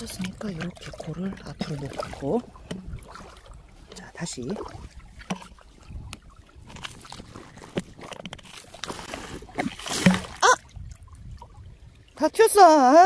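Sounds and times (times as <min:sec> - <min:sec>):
suction pump gurgling and slurping: 0:00.0 - 0:11.6
rush of water: 0:00.0 - 0:13.0.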